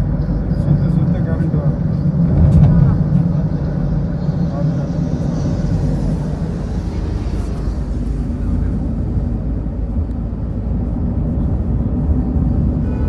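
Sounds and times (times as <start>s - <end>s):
heavy road traffic rumble: 0.0s - 13.0s.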